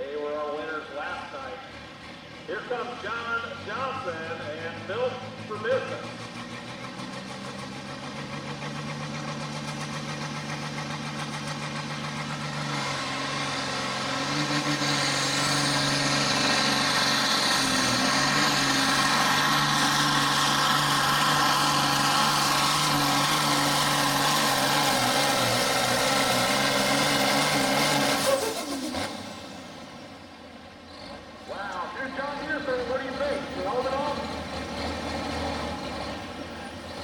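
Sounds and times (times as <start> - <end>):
diesel tractor engine under load: 0.0 - 37.0.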